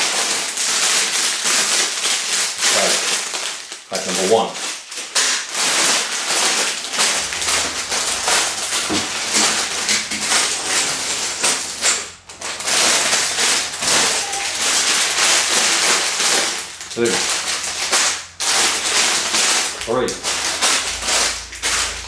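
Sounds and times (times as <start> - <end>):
plastic bags crinkling and rustling: 0.0 - 22.0.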